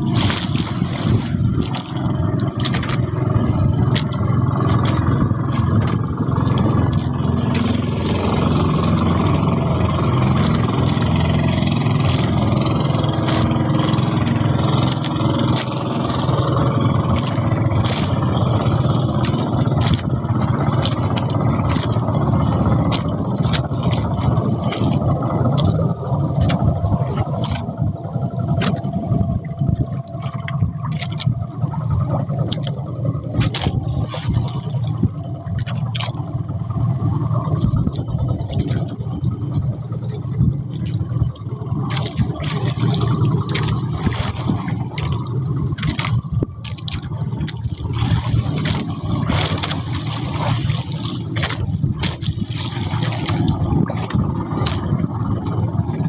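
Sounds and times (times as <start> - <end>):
boat rumbling and rushing: 0.0 - 56.0.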